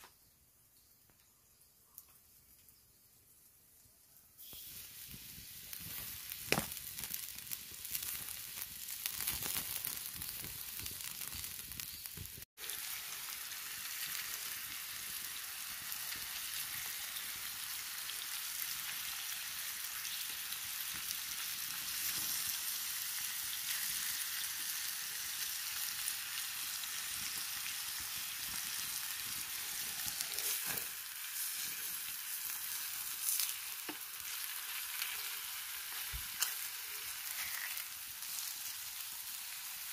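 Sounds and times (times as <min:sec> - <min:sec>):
food sizzling on hot stone: 0:00.6 - 0:39.9.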